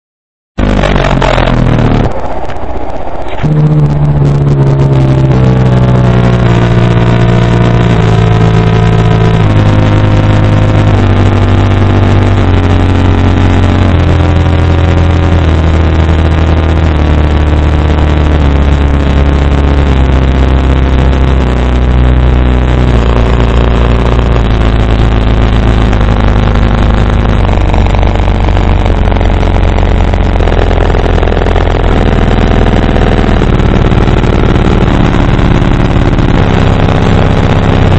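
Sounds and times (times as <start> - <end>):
bass sine sweep from subwoofers: 0.6 - 37.9.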